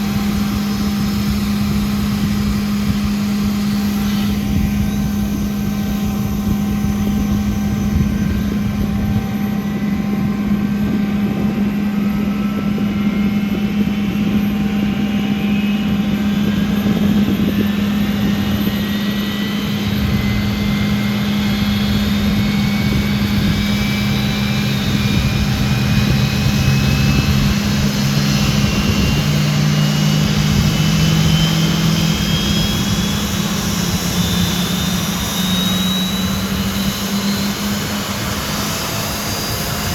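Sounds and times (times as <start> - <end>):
jet engines whining: 0.0 - 39.9
low hum: 0.0 - 39.9.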